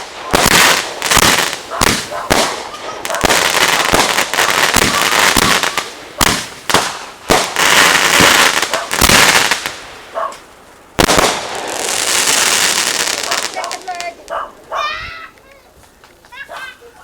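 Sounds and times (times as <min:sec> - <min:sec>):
fireworks bangs and crackling: 0:00.0 - 0:16.8.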